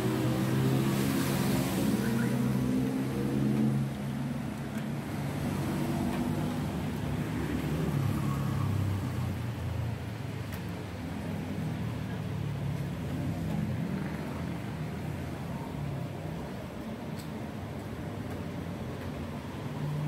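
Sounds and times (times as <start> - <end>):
vehicles passing by: 0.0 - 20.0.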